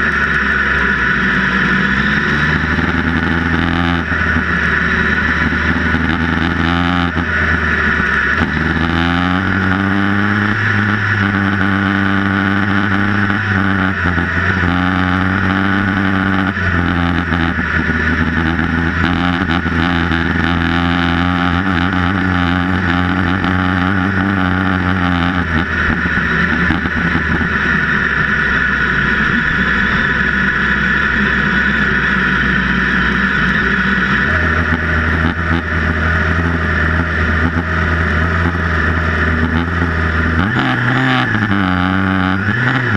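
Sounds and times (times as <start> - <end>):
buggy engine revving: 0.0 - 42.9
track noise: 0.0 - 42.9.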